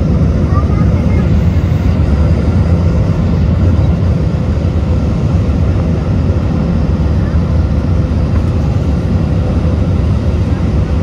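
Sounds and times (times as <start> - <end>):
jet engines and airflow rumble: 0.0 - 11.0.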